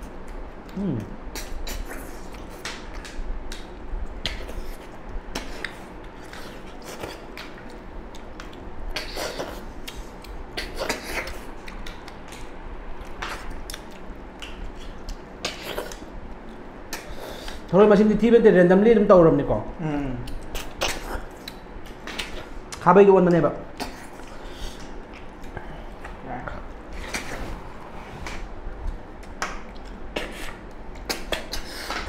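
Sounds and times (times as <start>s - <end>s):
wet mouth clicks and chewing: 0.1s - 17.7s, 20.2s - 22.8s, 23.7s - 27.4s, 28.2s - 32.0s.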